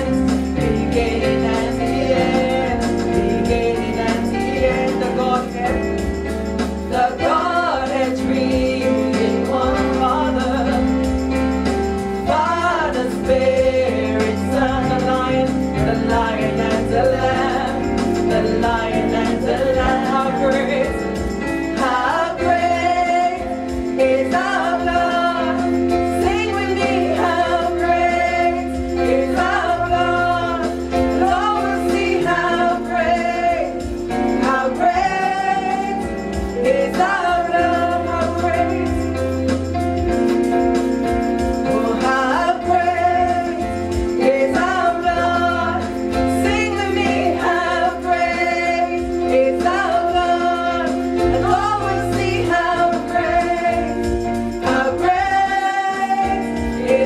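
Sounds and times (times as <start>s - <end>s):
woman singing into microphone: 0.0s - 6.3s, 6.9s - 11.3s, 12.2s - 40.1s, 41.5s - 57.0s
instrumental accompaniment: 0.0s - 57.0s.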